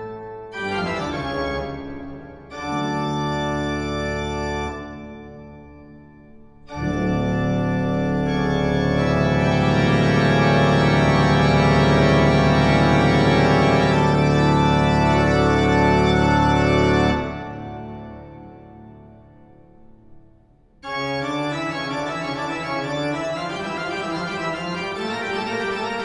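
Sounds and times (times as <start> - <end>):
held keyboard chords: 0.0 - 26.0.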